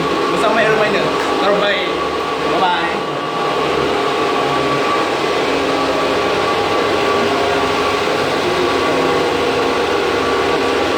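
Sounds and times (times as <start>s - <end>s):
cooling fans whirring: 0.0s - 10.9s.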